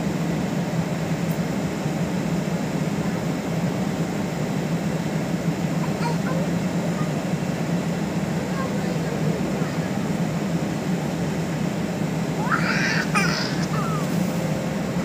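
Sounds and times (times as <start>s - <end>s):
train equipment low hum: 0.0s - 15.0s.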